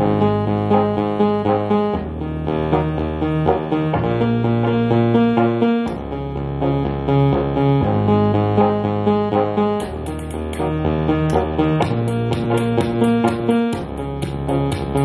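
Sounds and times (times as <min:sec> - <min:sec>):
electronic keyboard chords: 0:00.0 - 0:15.0.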